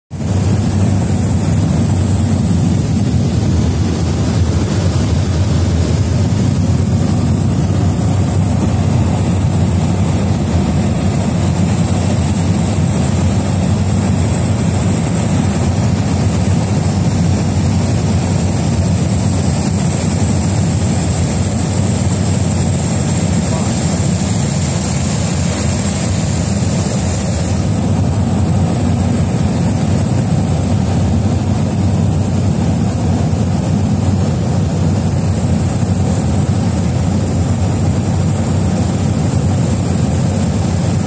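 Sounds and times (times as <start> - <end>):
high-pitched whine: 0.1 - 41.0
propeller engine drone: 0.1 - 41.0.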